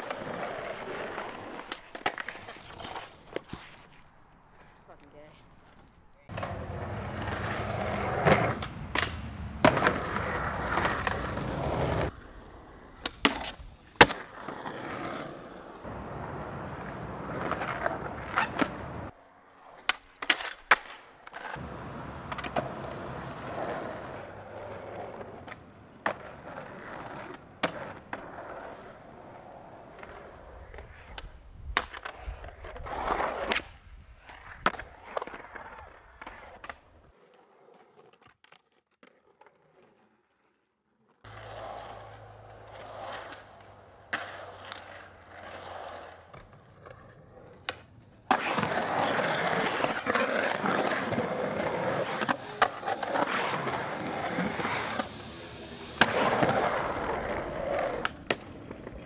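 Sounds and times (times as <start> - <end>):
skateboard popping and landing: 0.0 - 4.1, 5.8 - 40.6, 41.2 - 59.0
skateboard wheels rolling on concrete: 0.0 - 59.0.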